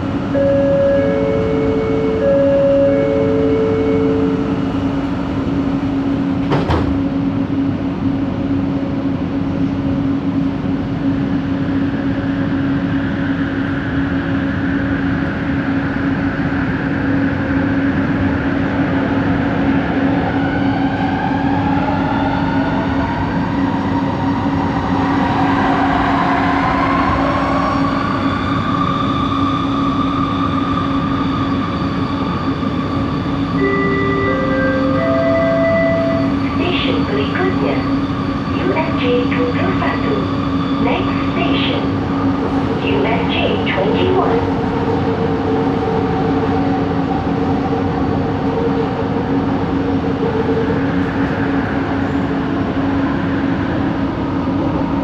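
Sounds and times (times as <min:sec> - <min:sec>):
train rumble with humming tone: 0:00.0 - 0:55.0.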